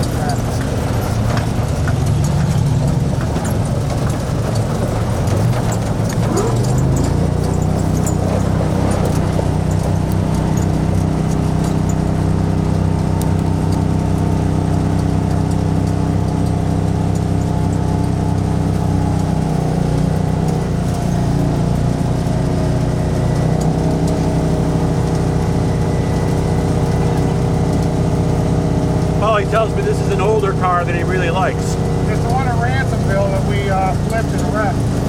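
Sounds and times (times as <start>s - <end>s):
utility vehicle engine running: 0.0s - 35.0s.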